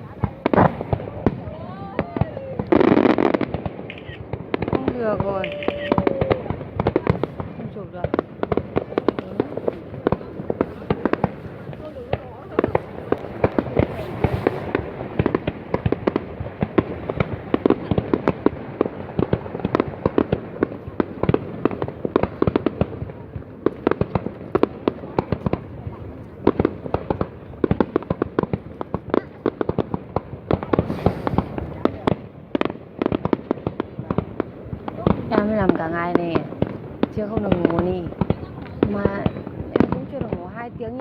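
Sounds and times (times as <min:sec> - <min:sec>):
fireworks bangs and cracks: 0:00.0 - 0:41.0.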